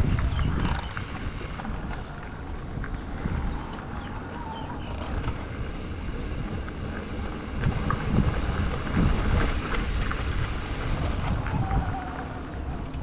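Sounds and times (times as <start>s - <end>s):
ride rumble: 0.0s - 13.0s
wind buffeting microphone: 0.0s - 13.0s.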